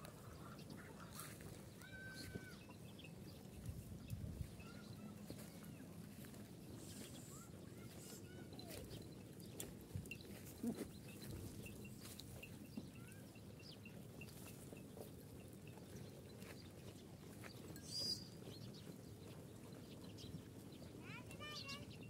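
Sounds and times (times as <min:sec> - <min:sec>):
goats and sheep feeding: 0:00.0 - 0:22.0
small birds chirping: 0:00.0 - 0:22.0.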